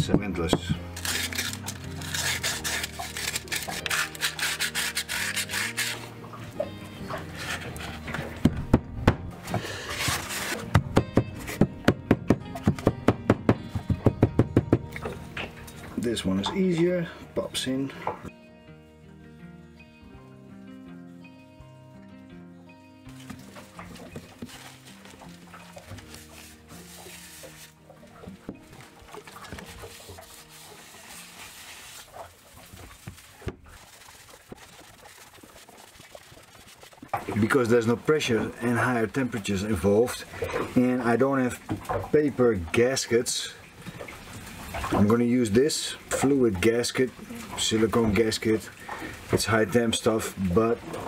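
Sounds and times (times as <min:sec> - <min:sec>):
background music: 0:00.0 - 0:33.0, 0:37.0 - 0:51.0.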